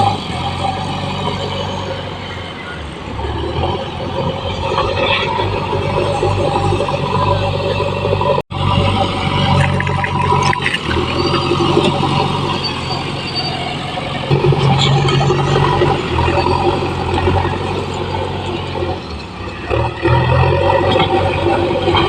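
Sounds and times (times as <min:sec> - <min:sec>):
diesel engine working under load: 0:00.0 - 0:22.0.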